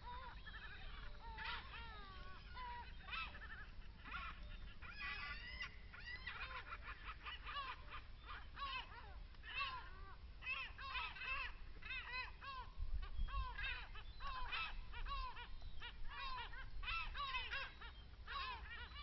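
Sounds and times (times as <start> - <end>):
flock of birds calling: 0.0 - 19.0.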